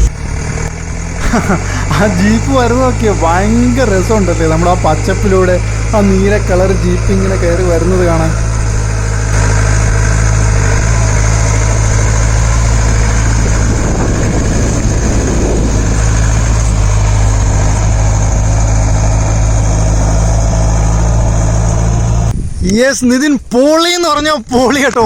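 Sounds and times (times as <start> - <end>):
engine droning: 0.0 - 22.4.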